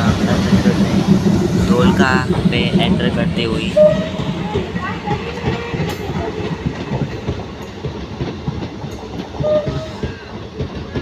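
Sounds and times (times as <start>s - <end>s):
train wheels clicking over rail joints: 0.0s - 11.0s.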